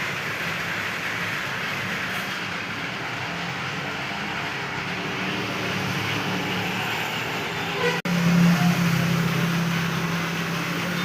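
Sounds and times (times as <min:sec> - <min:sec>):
broad background noise: 0:00.0 - 0:11.0.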